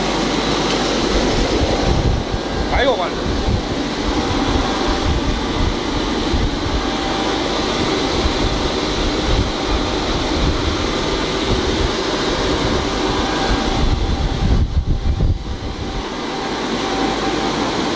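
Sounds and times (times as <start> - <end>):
factory machinery rushing and humming: 0.0 - 17.9
fluttering low rumble: 1.3 - 16.0.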